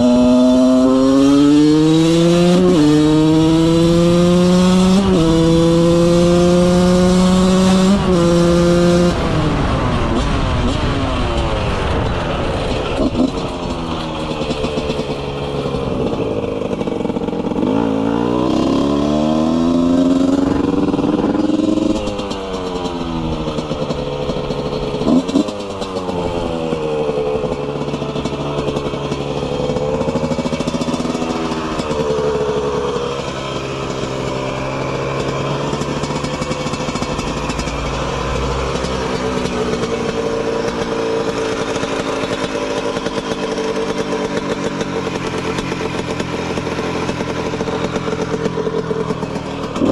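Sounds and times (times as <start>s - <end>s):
two-stroke motorcycle engine revving: 0.0s - 49.9s.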